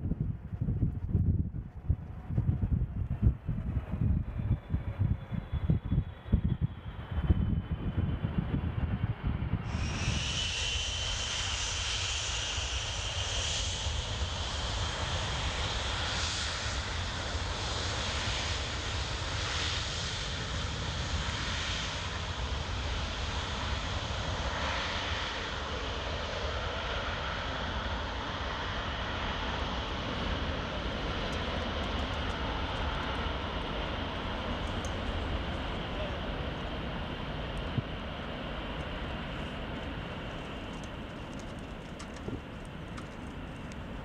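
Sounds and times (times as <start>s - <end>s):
jet engines running: 0.2s - 44.0s.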